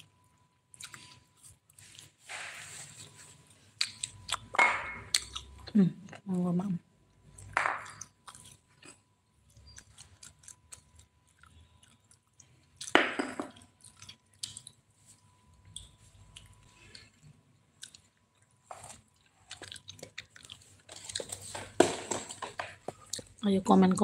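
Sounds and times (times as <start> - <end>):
person chewing food: 0.0 - 5.8, 7.2 - 21.8, 22.6 - 23.4.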